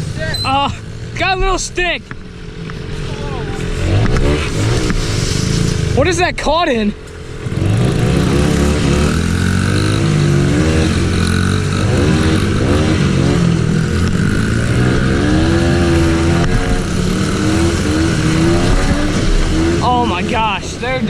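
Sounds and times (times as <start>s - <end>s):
small off-road engine revving: 0.0s - 21.0s.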